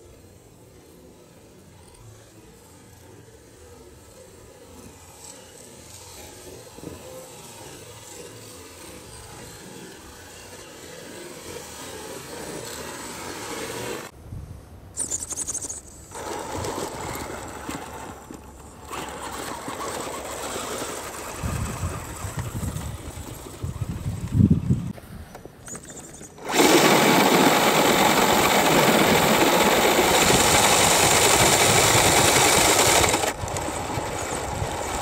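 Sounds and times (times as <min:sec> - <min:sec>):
toy truck motors whining: 0:00.0 - 0:14.1, 0:15.0 - 0:25.0, 0:25.6 - 0:35.0.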